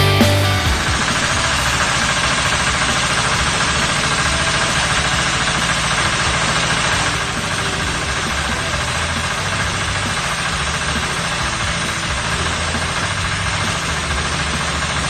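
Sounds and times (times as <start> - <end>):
pressure-washer pump running: 0.0 - 15.0
high-pressure water jet hissing: 0.7 - 15.0.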